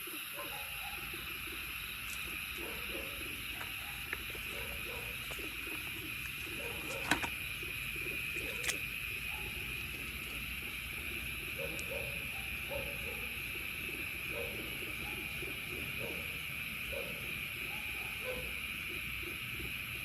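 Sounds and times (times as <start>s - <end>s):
low hooting animal calls: 0.0s - 19.9s.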